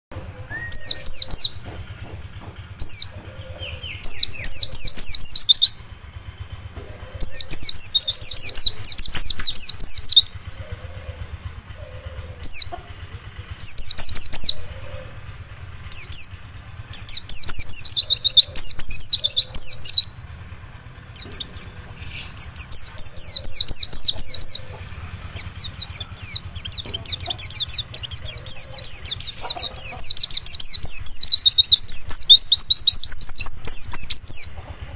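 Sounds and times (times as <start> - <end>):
white-eye chirping song: 0.1 - 34.9.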